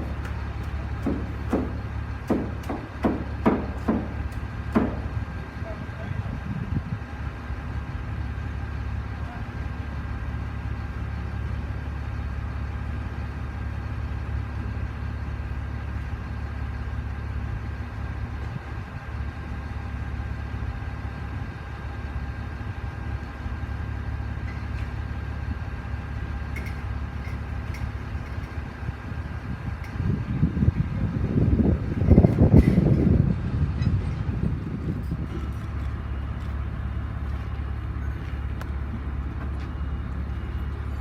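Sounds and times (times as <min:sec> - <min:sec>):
heavy vehicle engine running: 0:00.0 - 0:41.0.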